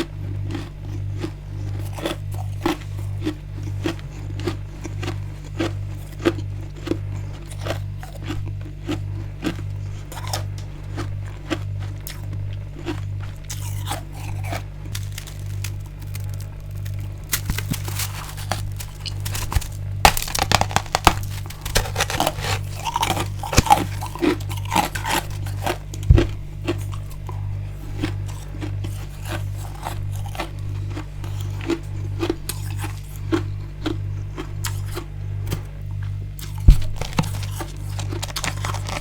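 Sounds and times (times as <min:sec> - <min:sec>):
crunching frozen ice: 0:00.0 - 0:35.8, 0:36.4 - 0:39.0
low pulsing hum: 0:00.0 - 0:39.0.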